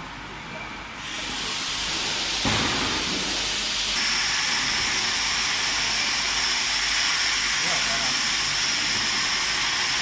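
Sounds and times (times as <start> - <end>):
laser cutting machine hissing: 1.0 - 10.0.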